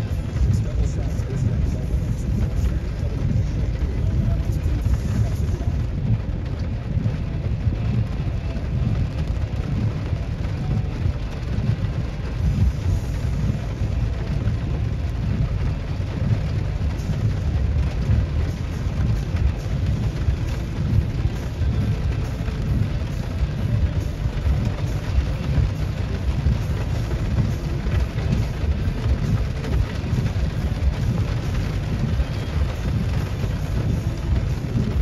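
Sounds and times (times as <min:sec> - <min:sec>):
thunderstorm with heavy rain: 0:00.0 - 0:35.0.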